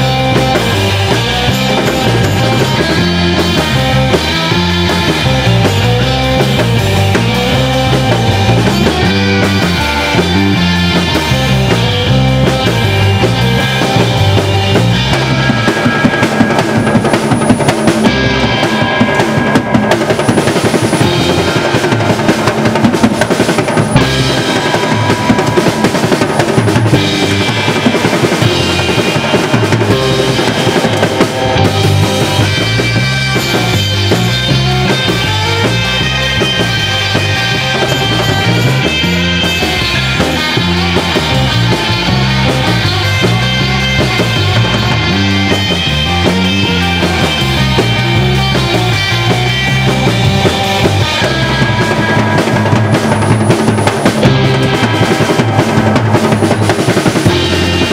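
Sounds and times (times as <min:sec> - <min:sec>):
drum kit rolling tom and snare: 0:00.0 - 0:57.9
electric bass: 0:00.0 - 0:57.9
electric guitar: 0:00.0 - 0:57.9.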